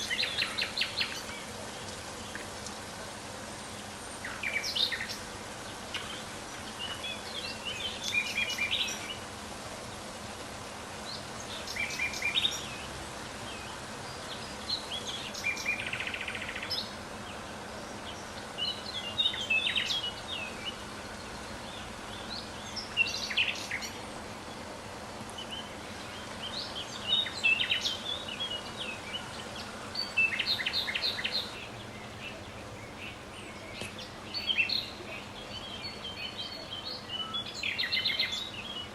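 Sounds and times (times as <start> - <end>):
background hiss: 0.0 - 38.9
songbird chirping: 0.0 - 38.9.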